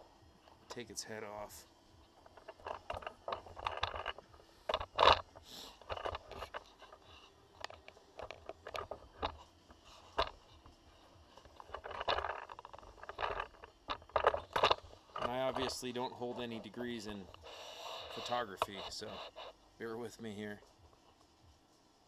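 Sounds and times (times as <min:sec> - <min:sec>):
camera scraping and knocking: 0:01.2 - 0:20.3.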